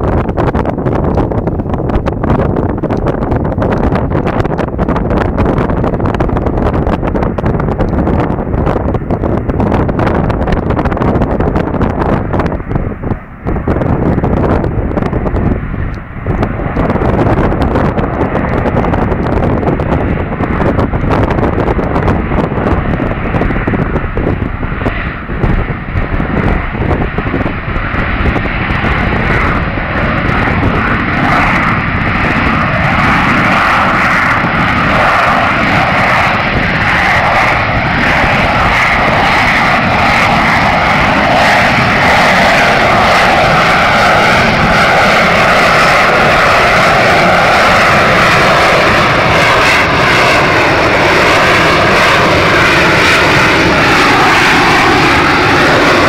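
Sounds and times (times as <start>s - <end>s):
jet engine high whine: 0.0s - 56.0s.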